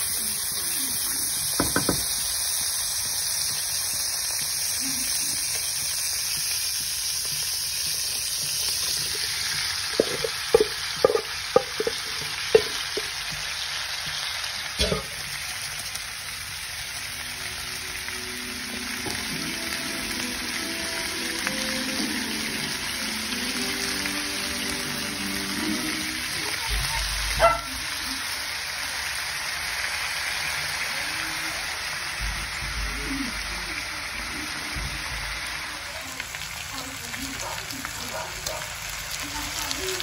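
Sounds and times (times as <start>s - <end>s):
food frying hiss: 0.0s - 40.0s.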